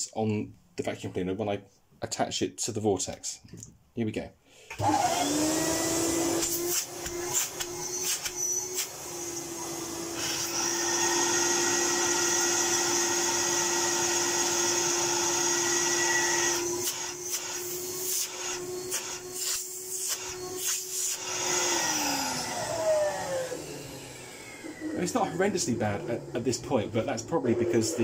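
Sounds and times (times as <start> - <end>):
vacuum cleaner motor whining: 4.7 - 28.0.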